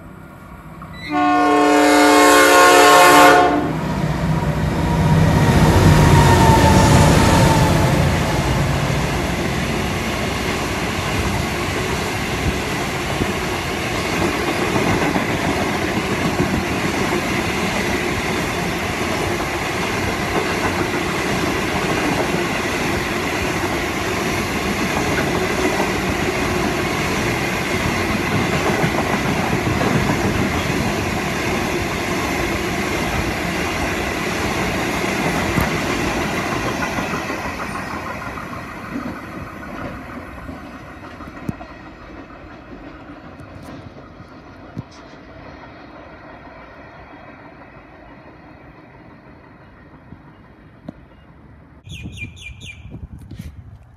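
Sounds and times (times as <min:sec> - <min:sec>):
train wheels clattering on rails: 0:04.9 - 0:51.2.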